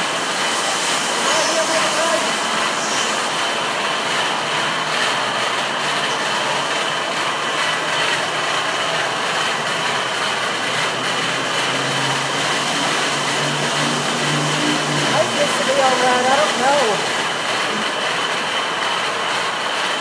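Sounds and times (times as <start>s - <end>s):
car wash brushes rushing: 0.0s - 20.0s.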